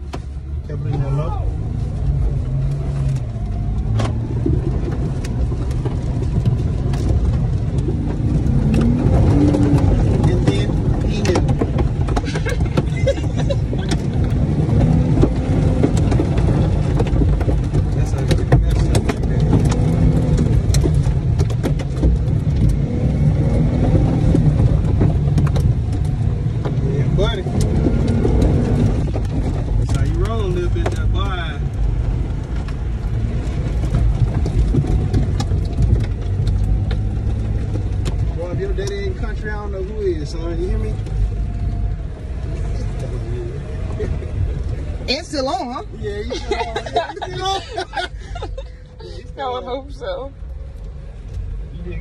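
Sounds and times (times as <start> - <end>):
engine pulling hard through mud: 0.0 - 49.6.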